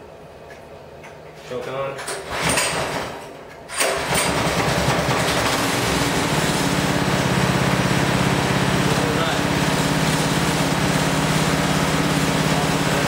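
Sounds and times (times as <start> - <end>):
small engine pull-starting and running: 2.1 - 13.0.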